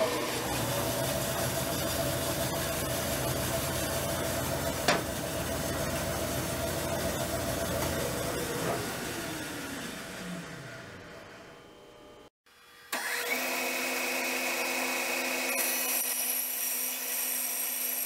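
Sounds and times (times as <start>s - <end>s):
bandsaw motor humming: 0.0s - 18.0s.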